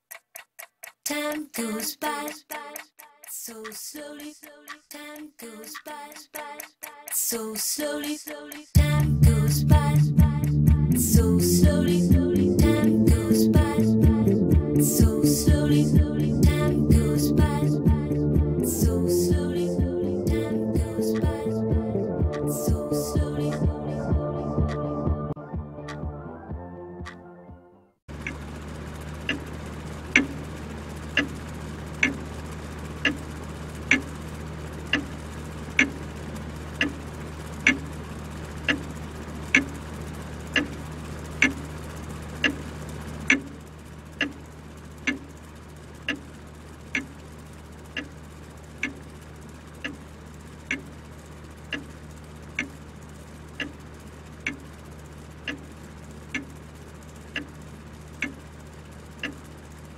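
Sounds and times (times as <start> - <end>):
clock ticking: 0.0 - 24.9, 28.1 - 28.6, 29.2 - 32.3, 33.0 - 34.2, 34.8 - 36.1, 36.7 - 39.9, 40.5 - 41.8, 42.4 - 47.3, 47.9 - 51.0, 51.7 - 52.9, 53.5 - 54.8, 55.4 - 58.6, 59.2 - 59.6
low steady hum: 8.7 - 27.2, 28.1 - 59.9.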